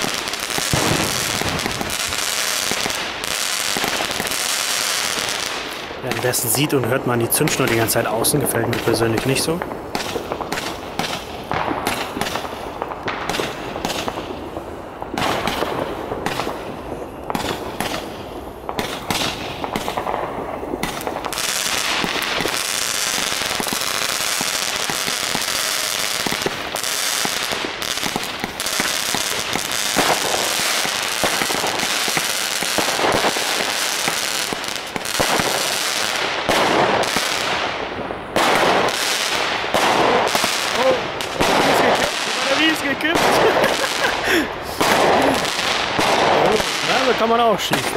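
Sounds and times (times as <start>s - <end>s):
dense firework crackle and hiss: 0.0s - 47.9s
firework shots and bursts: 0.0s - 47.9s
loud firework bangs: 0.0s - 47.9s.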